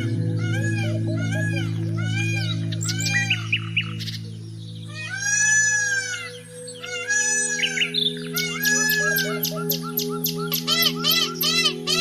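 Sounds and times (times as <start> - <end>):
peacock wailing cry: 0.0 - 4.2, 4.9 - 12.0
sparrows chirping: 0.0 - 12.0
steady low hum: 0.0 - 12.0.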